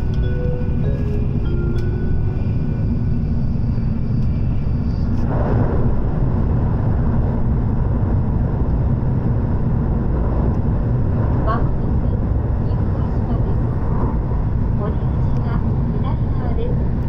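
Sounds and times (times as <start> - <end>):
high-speed train rumbling inside cabin: 0.0 - 17.0.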